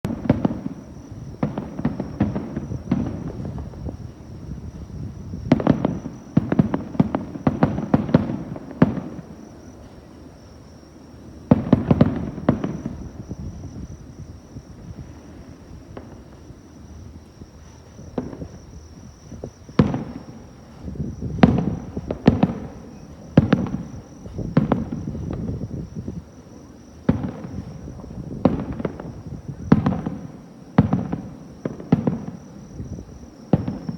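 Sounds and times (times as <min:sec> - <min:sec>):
fireworks booms and cracks: 0:00.1 - 0:10.7, 0:11.4 - 0:33.9.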